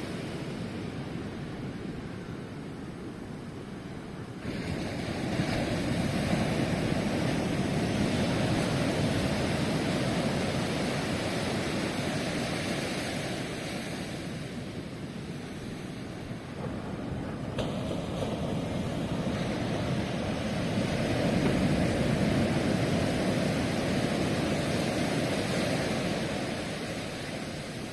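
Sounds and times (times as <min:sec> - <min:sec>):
wave breaking on shore: 0:04.4 - 0:27.9.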